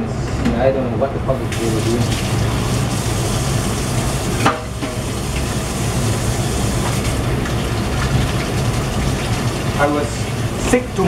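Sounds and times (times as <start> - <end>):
extractor fan hum: 0.0 - 11.0.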